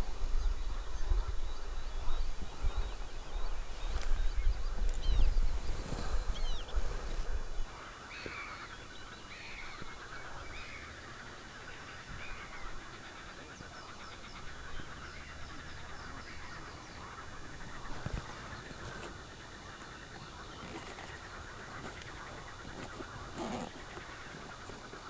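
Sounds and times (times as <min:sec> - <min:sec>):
small birds chirping: 0:00.4 - 0:25.0
water birds calling: 0:02.5 - 0:25.0.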